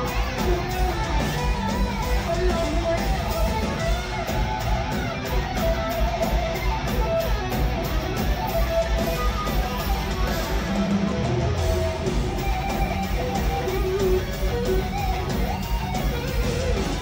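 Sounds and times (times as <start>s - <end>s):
distorted electric guitars: 0.0s - 17.0s
fast kick-drum beat: 0.0s - 17.0s.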